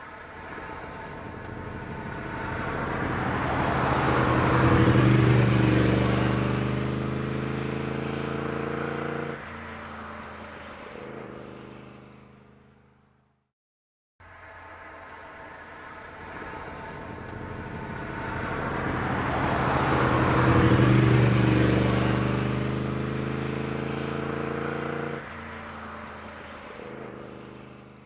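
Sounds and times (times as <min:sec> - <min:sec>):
car and motorcycle driving past: 0:00.0 - 0:12.9, 0:14.4 - 0:28.0
road noise: 0:00.0 - 0:13.0, 0:14.2 - 0:28.0.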